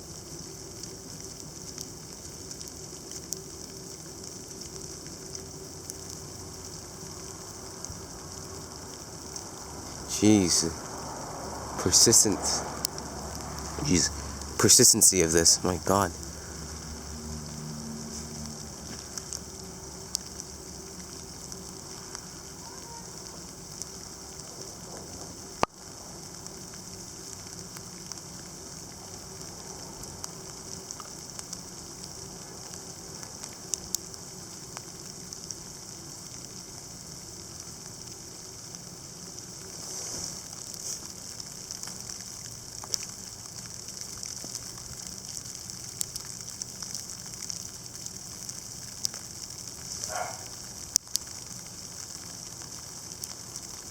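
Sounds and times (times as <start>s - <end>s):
sleet and snow falling: 0.0s - 53.9s.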